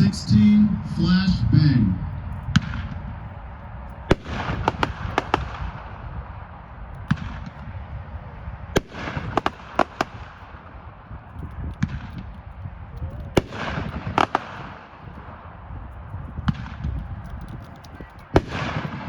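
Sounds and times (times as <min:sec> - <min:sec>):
crackling hiss: 0:02.0 - 0:19.0
firework bangs: 0:02.2 - 0:19.0.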